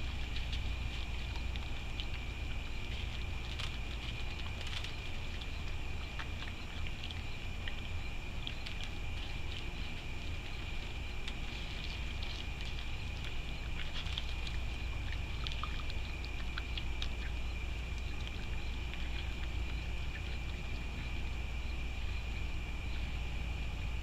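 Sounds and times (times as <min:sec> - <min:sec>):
raccoon feeding clicks and crunches: 0:00.0 - 0:24.0
steady high whine: 0:00.0 - 0:24.0
steady low rumble: 0:00.0 - 0:24.0.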